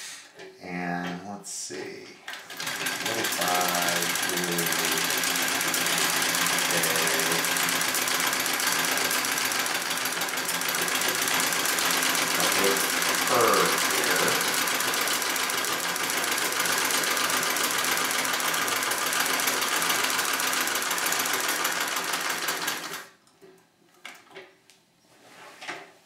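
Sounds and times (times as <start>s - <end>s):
treadle sewing machine running: 2.3s - 23.2s.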